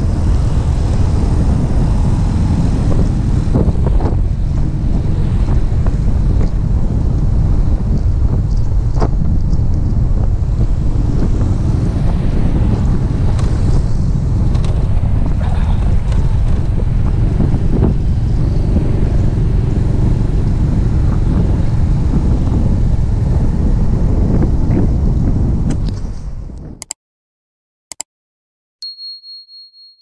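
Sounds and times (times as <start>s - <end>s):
wind buffeting microphone: 0.0s - 26.8s
motorcycle road and engine noise: 0.0s - 26.9s.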